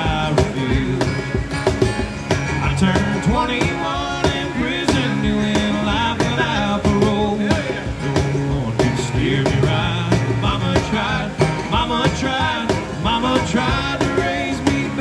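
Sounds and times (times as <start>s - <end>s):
man singing: 0.0s - 1.5s, 2.6s - 15.0s
acoustic guitar strumming: 0.0s - 15.0s
cajon beat: 0.0s - 15.0s.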